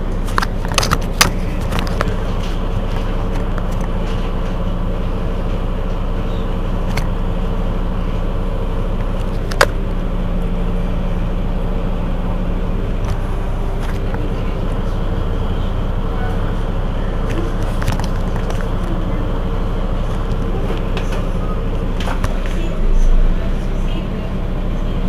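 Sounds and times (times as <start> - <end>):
bus engine idling: 0.0 - 25.0.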